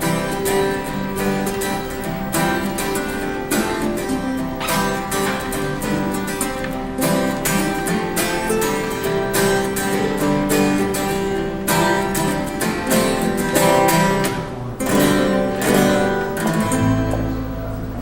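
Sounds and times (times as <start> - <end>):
acoustic guitar chords strummed: 0.0 - 18.0.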